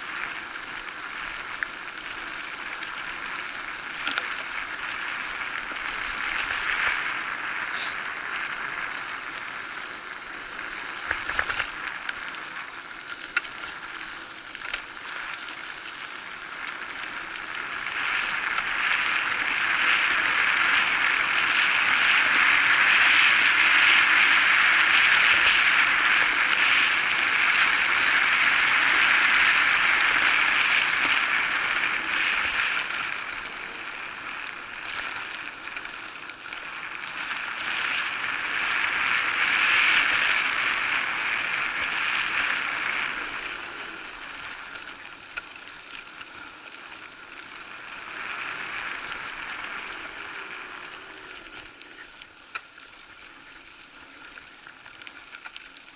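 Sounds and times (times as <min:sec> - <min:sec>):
bike tyres rushing on dirt: 0:00.0 - 0:55.9.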